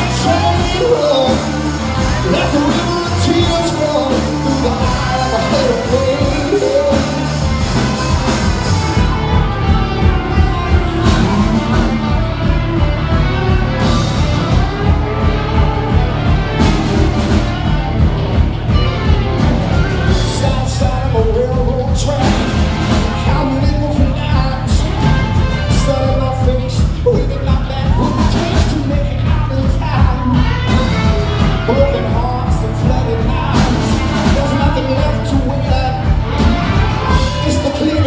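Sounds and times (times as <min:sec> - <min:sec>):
live rock band playing: 0:00.0 - 0:38.0
person singing: 0:00.0 - 0:38.0
steady drum beat: 0:00.0 - 0:38.0.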